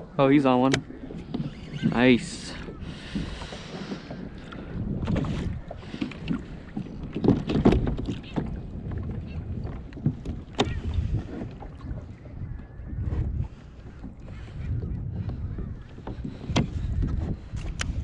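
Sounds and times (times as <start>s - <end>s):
water sloshing: 0.0s - 18.0s
wind buffeting microphone: 0.0s - 18.0s
knocks and clatter on kayak: 0.5s - 18.0s.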